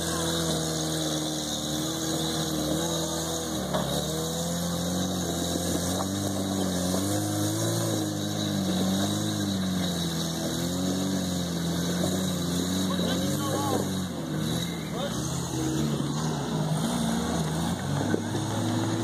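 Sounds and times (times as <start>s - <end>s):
truck engine at low revs: 0.0s - 19.0s.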